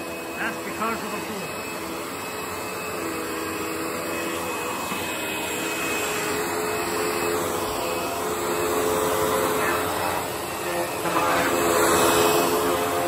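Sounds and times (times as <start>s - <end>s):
upright vacuum running: 0.0s - 13.0s.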